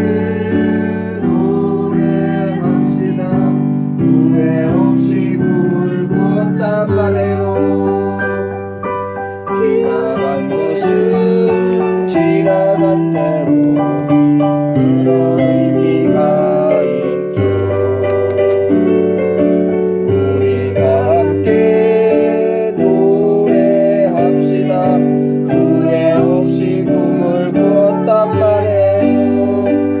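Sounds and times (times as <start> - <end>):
slow piano ballad: 0.0 - 30.0.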